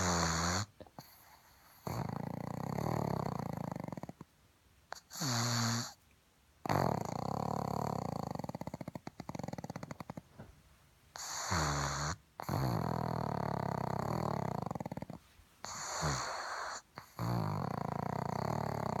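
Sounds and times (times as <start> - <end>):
dog snoring: 0.0 - 4.3, 4.9 - 6.0, 6.6 - 10.5, 11.1 - 19.0.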